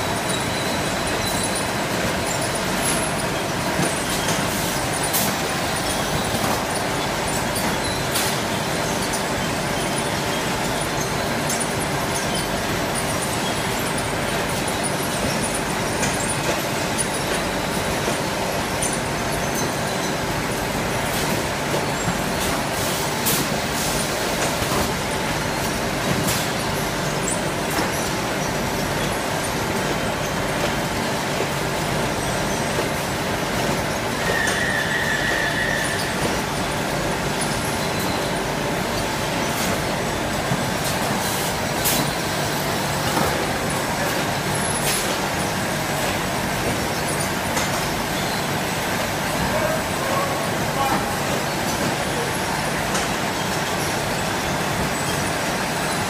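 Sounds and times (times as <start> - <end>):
packing machine running: 0.0 - 56.0.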